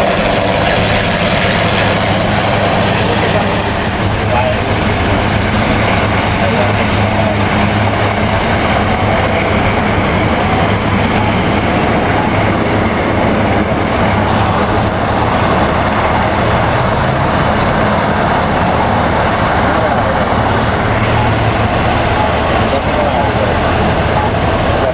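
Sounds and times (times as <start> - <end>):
low hum: 0.0 - 24.9
moving vehicle rumble: 0.0 - 24.9.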